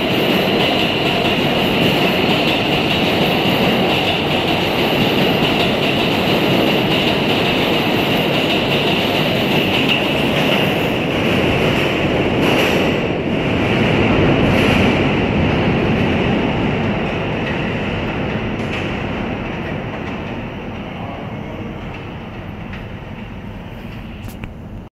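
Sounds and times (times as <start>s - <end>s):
rail clacks: 0.0s - 24.8s
subway train running: 0.0s - 24.9s.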